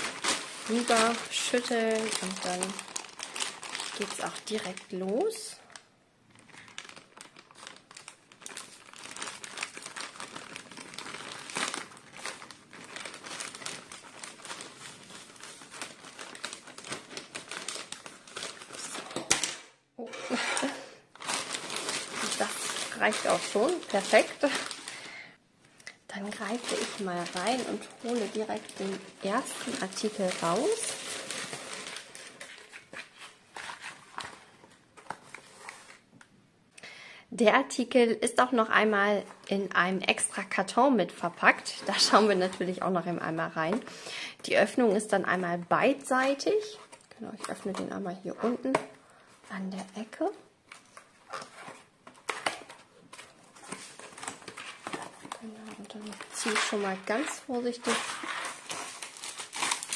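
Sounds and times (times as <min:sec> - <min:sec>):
plastic bag crinkling: 0:00.0 - 0:19.7, 0:20.6 - 0:25.3, 0:26.1 - 0:36.1, 0:41.2 - 0:43.0, 0:46.2 - 0:59.9.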